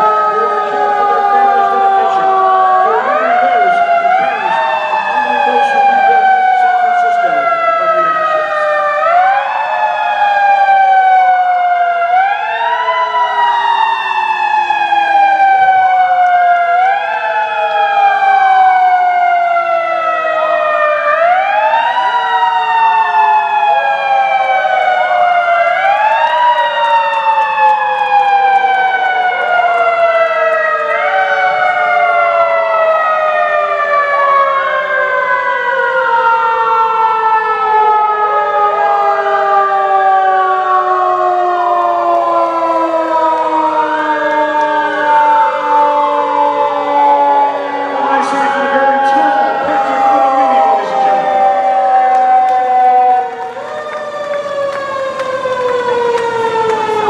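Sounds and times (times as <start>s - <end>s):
fire engine sirens wailing: 0.0s - 57.0s.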